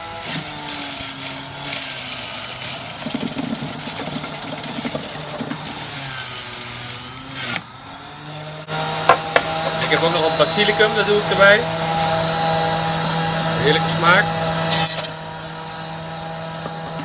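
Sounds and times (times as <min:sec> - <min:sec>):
cucumber grinding in juicer: 0:00.0 - 0:17.0
juicer motor whine: 0:00.0 - 0:17.0.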